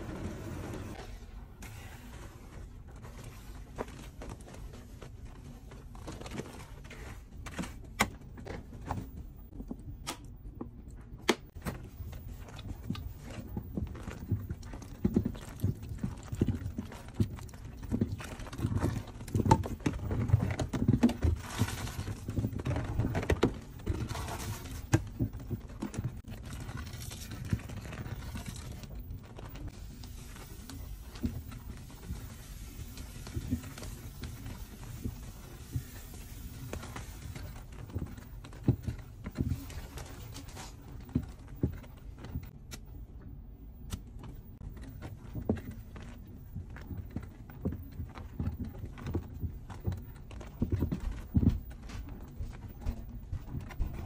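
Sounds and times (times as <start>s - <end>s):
washing machine rumbling: 0.0s - 10.0s, 10.6s - 42.6s, 44.3s - 54.0s.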